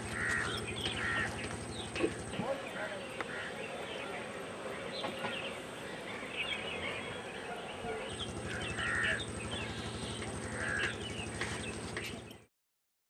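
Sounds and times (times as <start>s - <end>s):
birds chirping: 0.0s - 12.5s
low steady hum: 0.0s - 12.5s.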